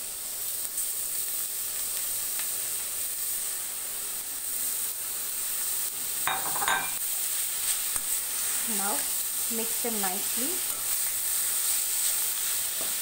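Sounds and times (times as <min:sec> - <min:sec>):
mince sizzling in oil: 0:00.0 - 0:13.0.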